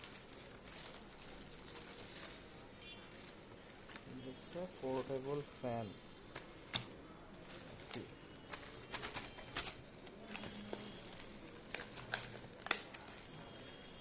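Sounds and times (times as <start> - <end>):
plastic bag crinkling: 0.0 - 5.6, 7.3 - 14.0.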